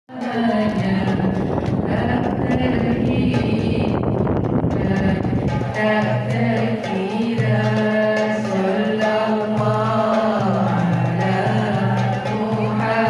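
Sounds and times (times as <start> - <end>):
person chanting devotional song: 0.1 - 13.0.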